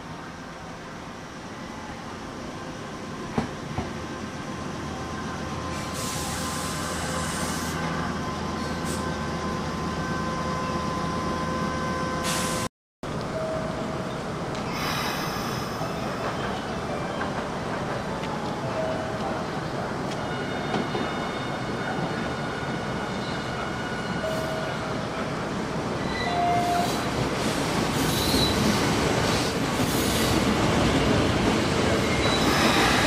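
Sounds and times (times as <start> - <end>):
electric train pulling in: 0.1 - 33.0.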